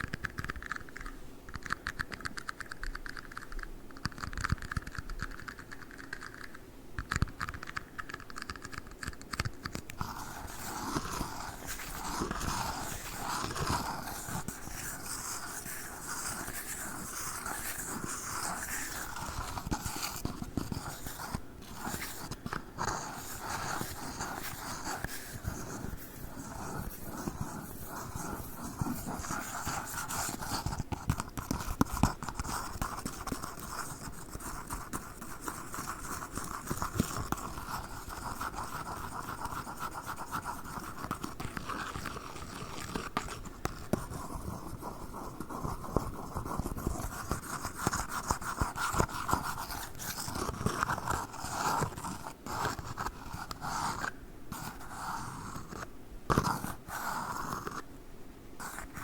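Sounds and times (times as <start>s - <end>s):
tapping and scratching on cups: 1.6s - 54.8s.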